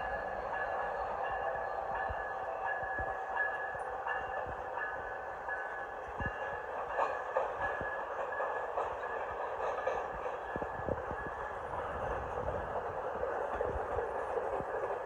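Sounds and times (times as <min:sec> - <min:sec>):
train cars rolling rumble: 0:00.0 - 0:15.0.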